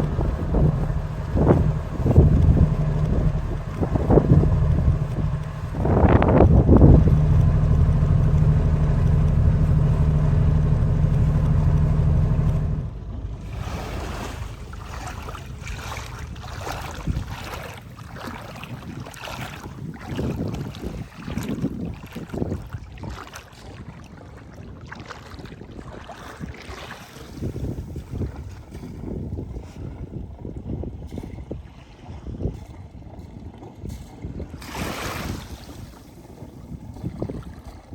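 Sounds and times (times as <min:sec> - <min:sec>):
boat engine running: 0:00.0 - 0:37.9
water splashing against hull: 0:00.0 - 0:37.9
wind on microphone: 0:00.0 - 0:37.9.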